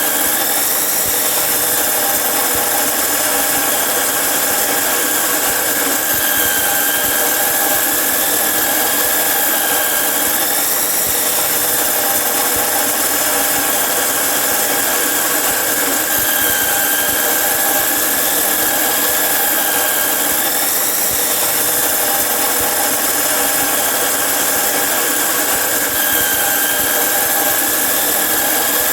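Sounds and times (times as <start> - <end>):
angle grinder cutting metal: 0.0 - 28.9.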